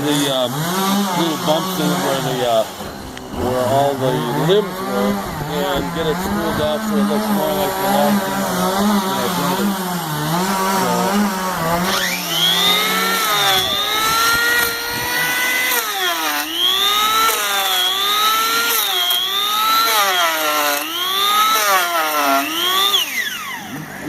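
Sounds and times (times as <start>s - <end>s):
power planer whining: 0.0s - 24.0s.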